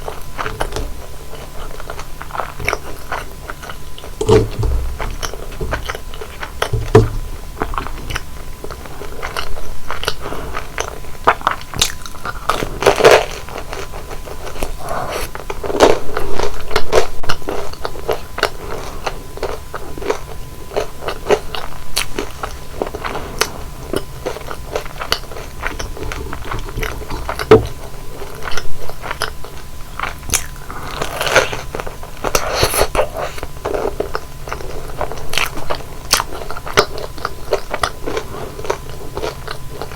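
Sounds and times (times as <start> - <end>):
crunchy food being chewed: 0.0 - 39.9
wet chewing: 0.0 - 39.9.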